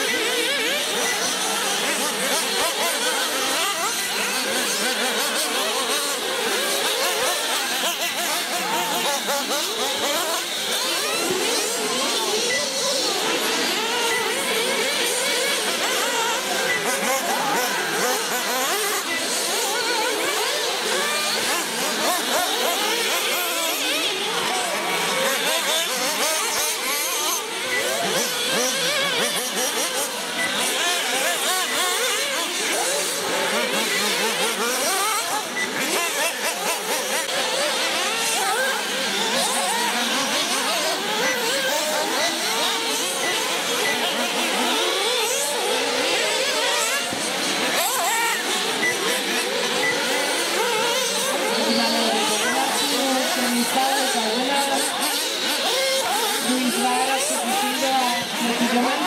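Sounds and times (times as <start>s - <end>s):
rc buggy motors whining: 0.0s - 59.0s.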